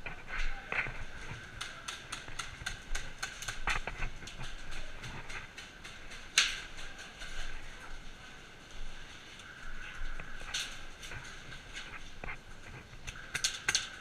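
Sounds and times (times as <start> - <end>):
running footsteps: 0.0 - 14.0.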